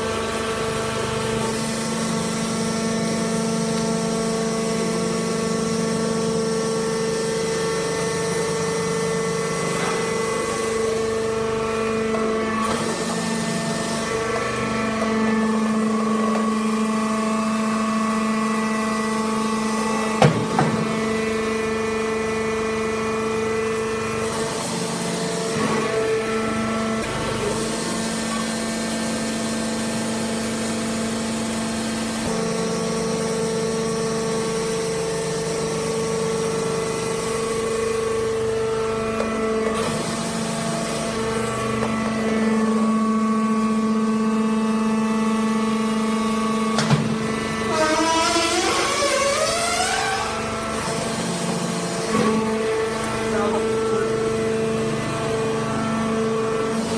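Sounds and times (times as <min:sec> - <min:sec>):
hydraulic press motor humming: 0:00.0 - 0:56.9.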